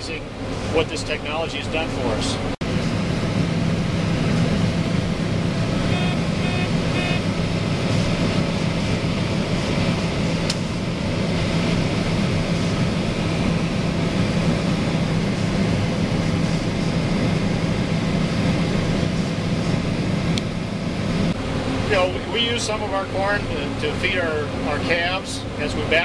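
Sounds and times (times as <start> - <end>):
combine harvester engine drone: 0.0 - 26.0.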